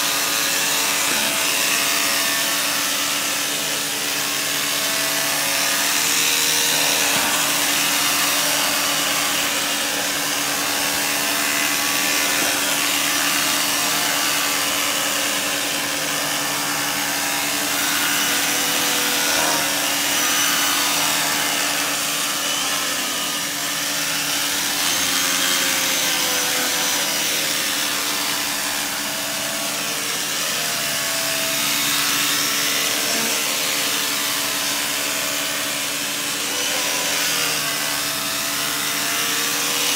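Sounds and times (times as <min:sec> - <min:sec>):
carpet extractor vacuum rushing: 0:00.0 - 0:39.9.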